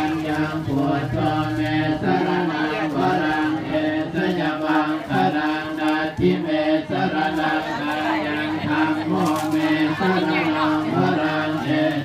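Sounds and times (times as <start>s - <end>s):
monotone chanting: 0.0s - 12.0s.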